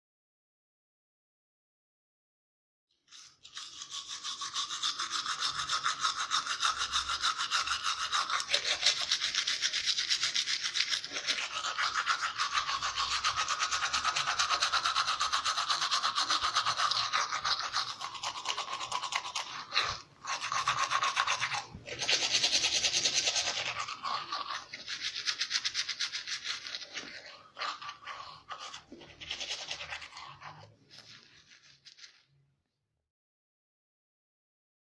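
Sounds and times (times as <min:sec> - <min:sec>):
toothbrush scrubbing teeth: 0:03.1 - 0:32.3.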